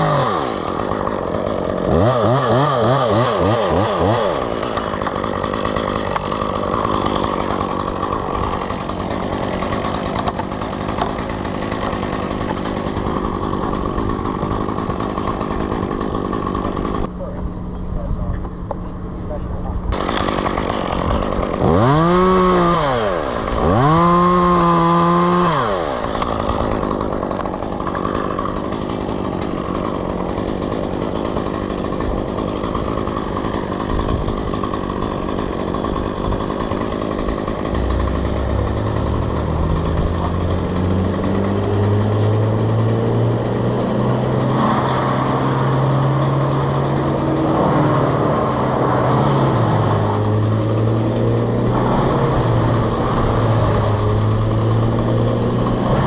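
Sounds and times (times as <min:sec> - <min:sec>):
chainsaw revving: 0:00.0 - 0:17.4, 0:18.3 - 0:56.0
lower-pitched engine running: 0:00.0 - 0:56.0.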